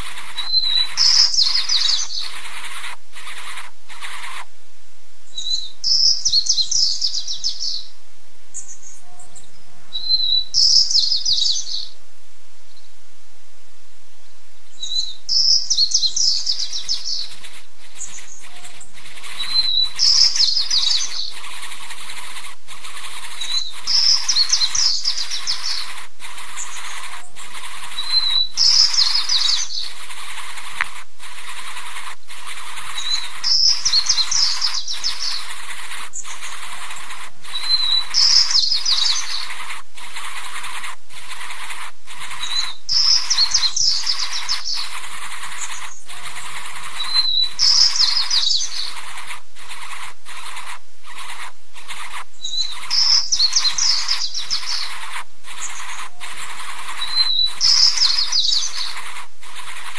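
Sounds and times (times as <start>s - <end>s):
bird calls with rapid chirps: 0.0s - 4.5s, 5.3s - 7.9s, 8.6s - 12.0s, 14.7s - 59.9s
steady high hiss: 0.0s - 59.9s.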